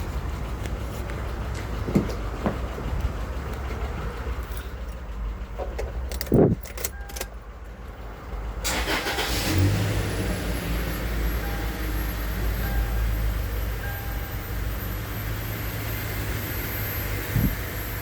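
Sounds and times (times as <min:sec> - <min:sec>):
car engine starting and running: 0:00.0 - 0:18.0.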